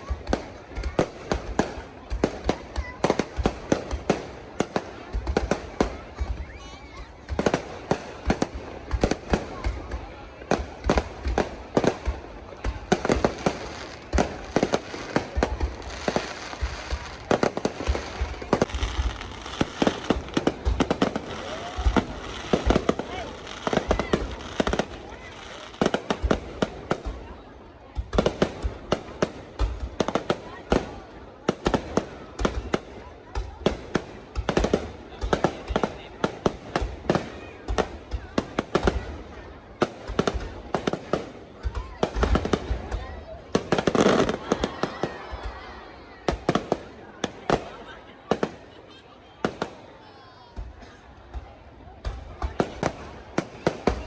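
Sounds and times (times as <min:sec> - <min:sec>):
fireworks bursting: 0:00.0 - 0:54.0
fireworks crackling fizz: 0:00.0 - 0:54.0.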